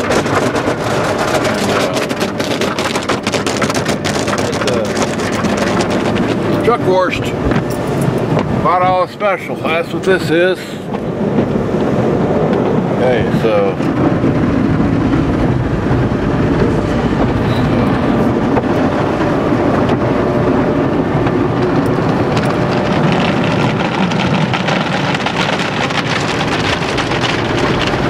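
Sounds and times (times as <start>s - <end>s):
car wash brushes slapping: 0.0s - 8.6s, 10.9s - 28.0s
water spraying: 0.0s - 28.0s.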